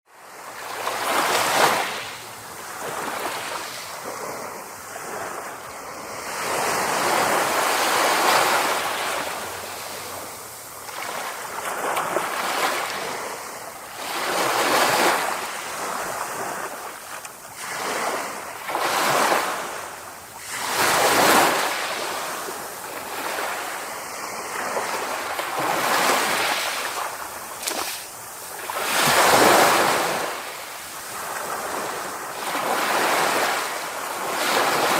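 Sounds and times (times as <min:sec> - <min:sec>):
sea waves breaking: 0:00.4 - 0:34.9.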